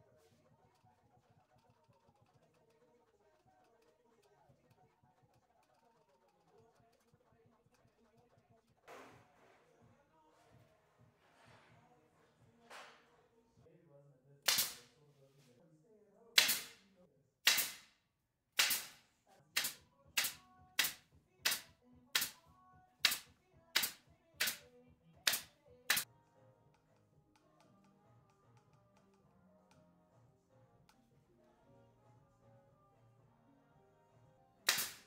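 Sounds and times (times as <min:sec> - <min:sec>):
faint background music: 0:00.0 - 0:35.0.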